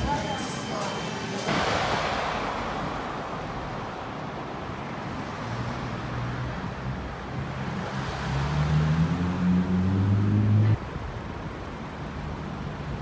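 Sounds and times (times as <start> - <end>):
car tyre noise passing: 1.5 - 13.0
vehicle engine hum: 1.5 - 13.0.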